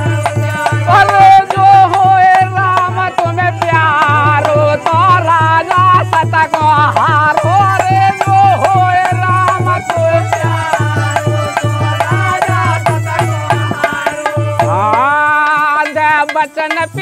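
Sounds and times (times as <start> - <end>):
hand drum beating: 0.0 - 17.0
men singing: 0.0 - 17.0
small hand cymbals: 0.0 - 17.0.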